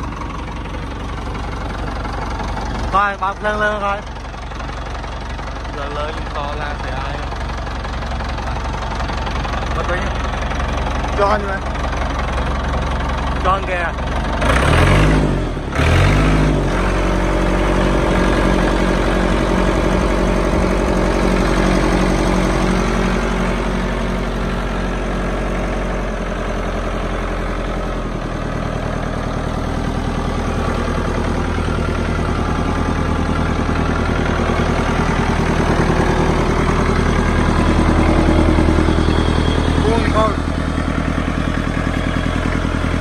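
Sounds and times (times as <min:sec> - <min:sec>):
tractor diesel engine revving: 0:00.0 - 0:43.0
tractor engine idling: 0:00.0 - 0:43.0.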